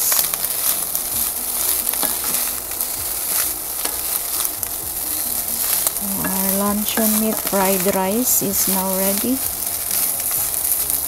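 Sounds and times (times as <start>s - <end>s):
food sizzling in a wok: 0.0s - 11.0s
spatula scraping and tapping pan: 0.1s - 11.0s.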